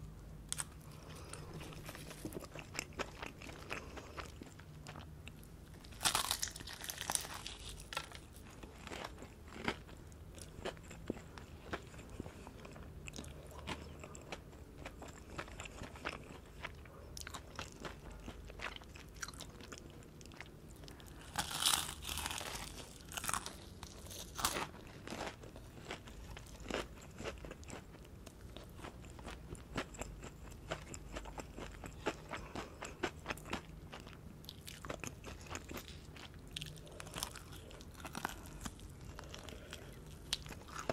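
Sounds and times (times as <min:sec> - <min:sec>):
fried chicken crunching: 0:00.5 - 0:05.0, 0:05.8 - 0:20.4, 0:21.0 - 0:28.0, 0:28.7 - 0:40.9
chewing: 0:00.5 - 0:40.9.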